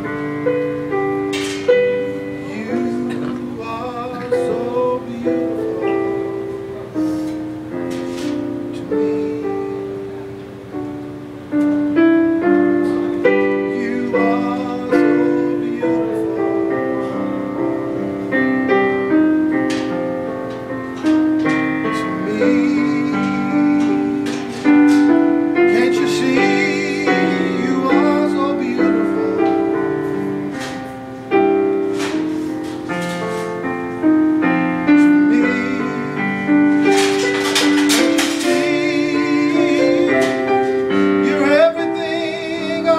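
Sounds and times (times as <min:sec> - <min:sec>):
piano melody over chords: 0:00.0 - 0:42.9.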